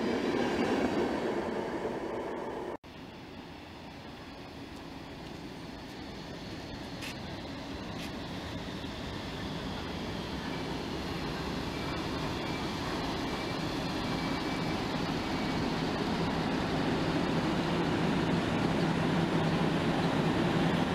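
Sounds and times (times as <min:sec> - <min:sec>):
train rolling rumble: 0:00.0 - 0:20.9.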